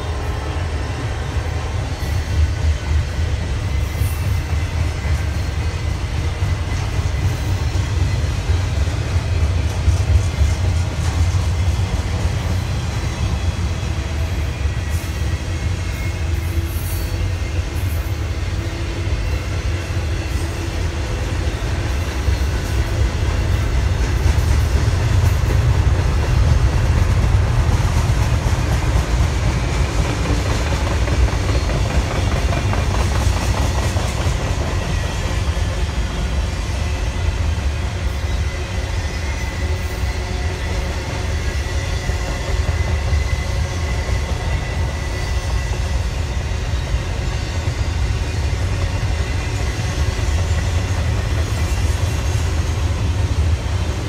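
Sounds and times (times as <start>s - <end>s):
clickety-clack over rail joints: 0.0s - 54.0s
freight train wheels rumbling: 0.0s - 54.0s.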